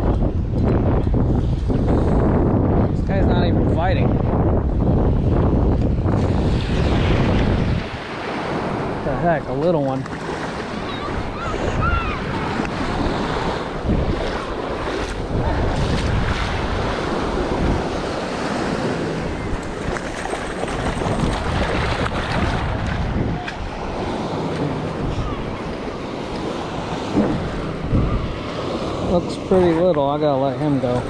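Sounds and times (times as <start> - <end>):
wind buffeting microphone: 0.0 - 31.0
surf washing onto beach: 5.2 - 31.0.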